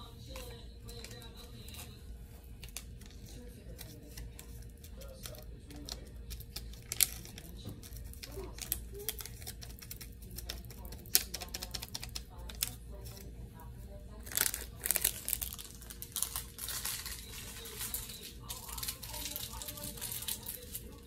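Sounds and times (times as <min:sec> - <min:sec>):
plastic bag crinkling: 0:00.0 - 0:13.3, 0:14.1 - 0:21.0
steady low hum: 0:00.0 - 0:21.0.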